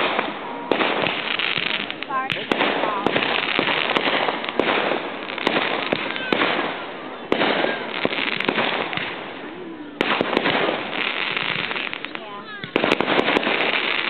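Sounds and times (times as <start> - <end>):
firework bangs: 0.0 - 14.0
firework crackling: 0.0 - 14.0.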